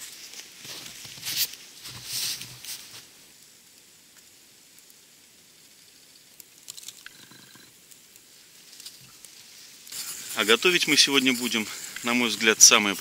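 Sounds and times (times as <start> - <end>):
crunching rustle: 0.0 - 3.8, 5.6 - 13.0
wood fire crackling: 0.0 - 13.0.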